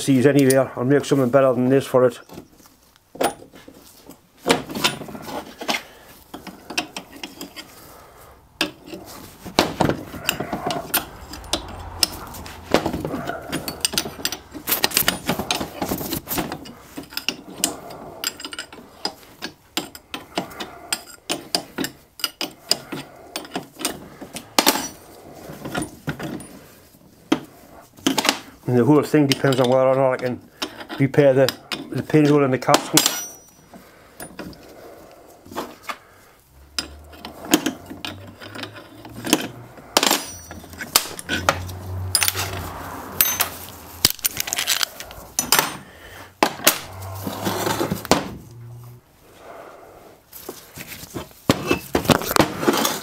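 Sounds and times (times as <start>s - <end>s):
metal clinks and knocks: 2.2s - 28.6s, 29.2s - 36.0s, 36.6s - 48.9s.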